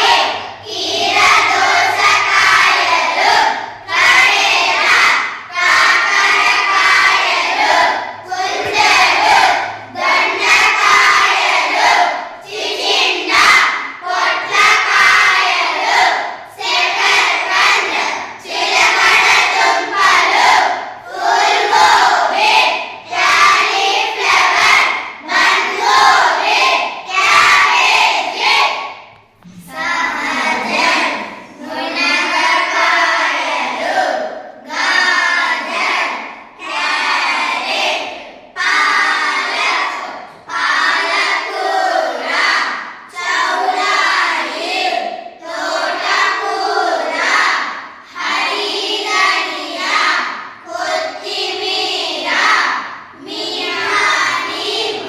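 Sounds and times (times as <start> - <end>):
children reciting in unison: 0.0 - 55.0.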